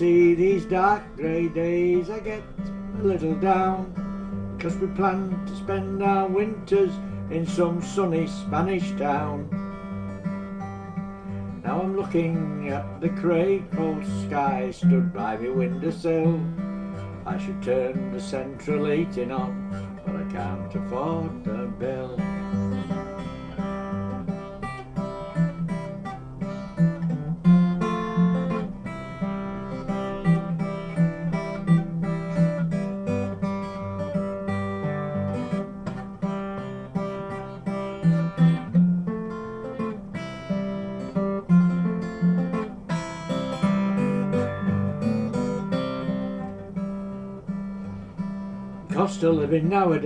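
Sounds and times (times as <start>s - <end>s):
acoustic guitar picked and strummed: 0.0s - 50.0s.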